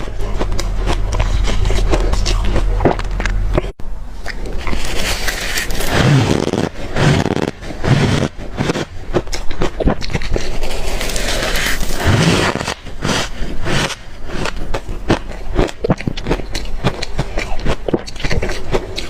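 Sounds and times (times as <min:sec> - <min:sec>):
chewing crushed ice: 0:00.0 - 0:19.0.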